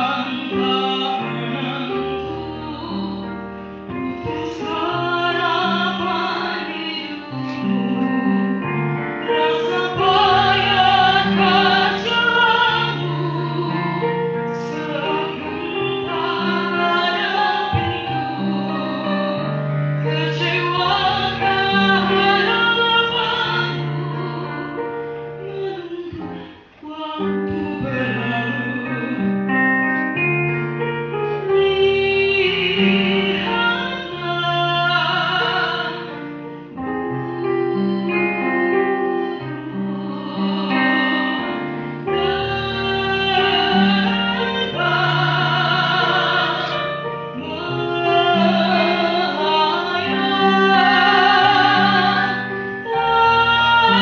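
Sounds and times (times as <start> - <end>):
instrumental accompaniment: 0.0 - 54.0
woman singing with vibrato: 0.0 - 54.0.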